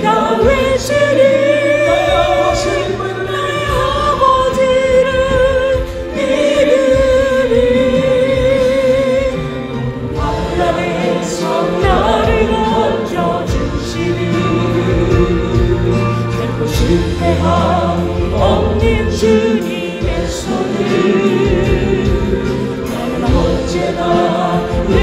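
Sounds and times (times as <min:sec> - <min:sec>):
choir singing: 0:00.0 - 0:25.0
person singing with vibrato: 0:00.0 - 0:25.0.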